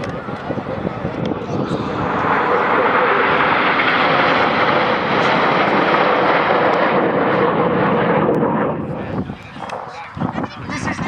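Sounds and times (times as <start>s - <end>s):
jets roaring overhead: 0.0s - 11.0s.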